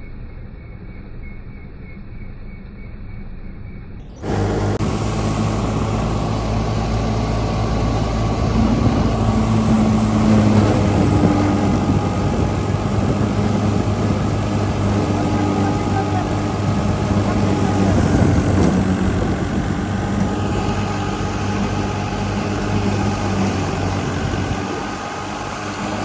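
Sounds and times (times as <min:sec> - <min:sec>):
machinery rattle and whine: 0:00.0 - 0:26.0
combine harvester engine humming: 0:04.1 - 0:26.0.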